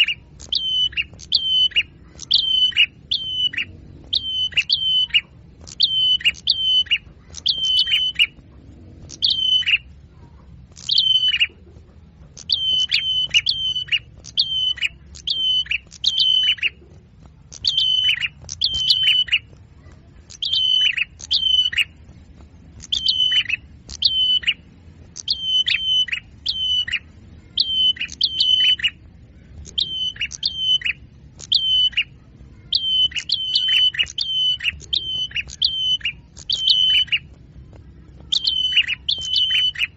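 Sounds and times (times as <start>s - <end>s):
songbird chirps: 0.0s - 39.9s.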